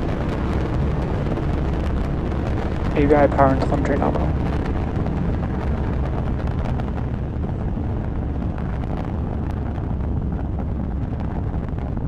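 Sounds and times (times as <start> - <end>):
rocket engines deep rumble: 0.0 - 12.0.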